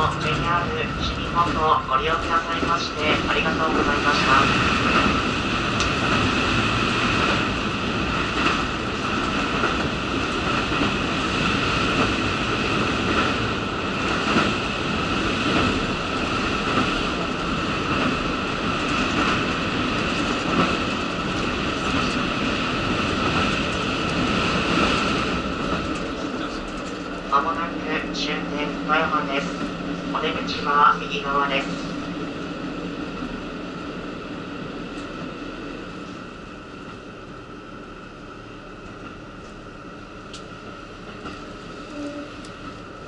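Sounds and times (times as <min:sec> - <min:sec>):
rail joint clacks: 0:00.0 - 0:32.4, 0:40.2 - 0:43.0
railcar engine and wheel noise: 0:00.0 - 0:43.0.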